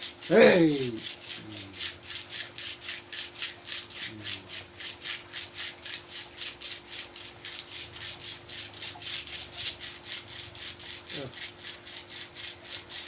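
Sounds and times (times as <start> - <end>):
seeds rubbed and rattled: 0.0 - 13.0.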